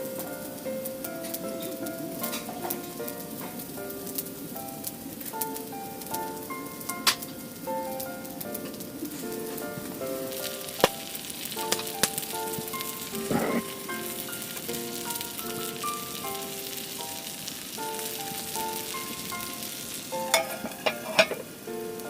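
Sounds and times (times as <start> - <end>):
fire crackles: 0.0 - 22.0
food sizzling on a grill: 0.0 - 22.0
gentle background melody: 0.0 - 22.0.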